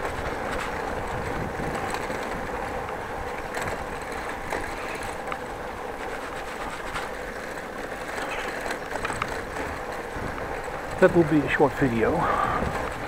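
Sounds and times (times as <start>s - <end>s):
bicycle clicks and rattles: 0.0s - 13.0s
bicycle tyres rumbling on bricks: 0.0s - 13.0s.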